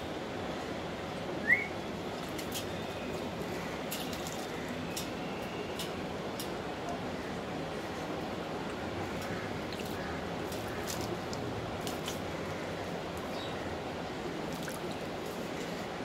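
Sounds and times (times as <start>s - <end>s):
steady background noise: 0.0s - 16.0s
water splashes and drips: 1.9s - 7.0s, 8.2s - 16.0s.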